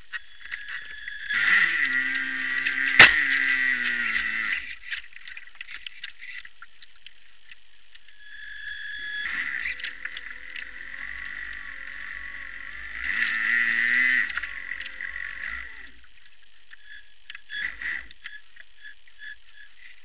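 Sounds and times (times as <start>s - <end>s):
electric boat motor whining: 0.0s - 4.8s, 8.0s - 16.1s, 16.7s - 20.0s.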